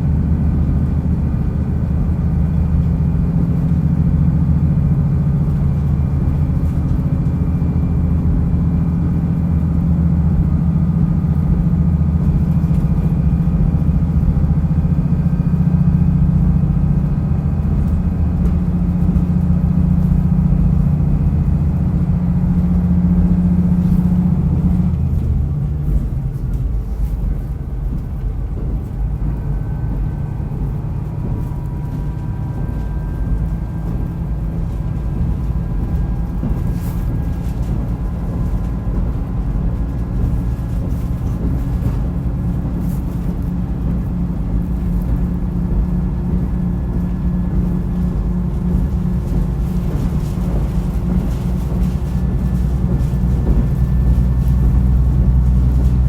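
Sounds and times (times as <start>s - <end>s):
diesel railcar engine pulling: 0.0s - 56.0s
train coasting: 0.0s - 56.0s.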